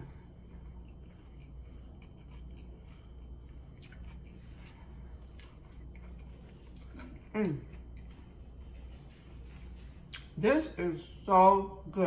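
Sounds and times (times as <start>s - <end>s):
person chewing a sandwich: 0.0s - 10.4s
low steady hum: 0.0s - 12.0s.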